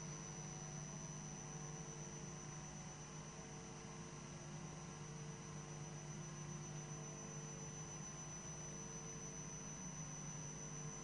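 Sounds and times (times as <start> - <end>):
low electrical hum: 0.0 - 11.0
thin high-pitched whine: 0.0 - 11.0.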